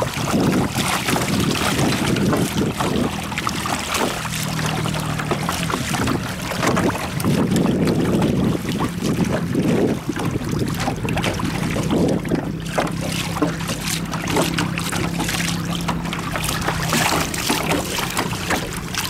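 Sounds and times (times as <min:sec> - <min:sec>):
water rushing and splashing: 0:00.0 - 0:19.0
wind buffeting microphone: 0:00.0 - 0:19.0.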